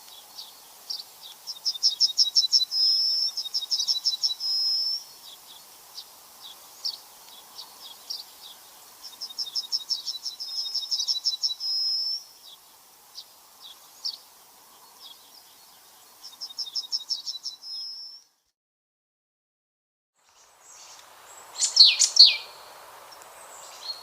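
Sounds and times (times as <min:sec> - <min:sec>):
small bird singing: 0:00.0 - 0:18.5, 0:20.2 - 0:24.0.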